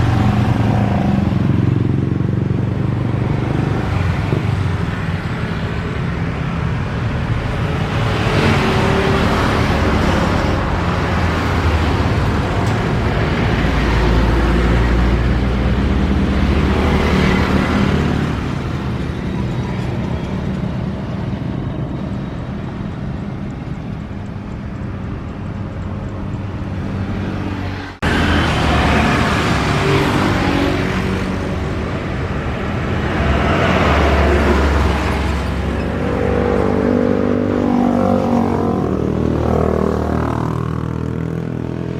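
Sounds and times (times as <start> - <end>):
road traffic passing: 0.0 - 41.9.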